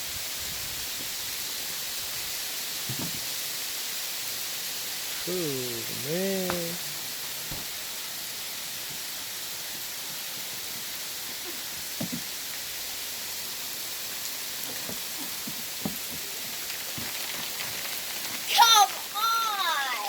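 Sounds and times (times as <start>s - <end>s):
hail hissing on surfaces: 0.0s - 20.0s.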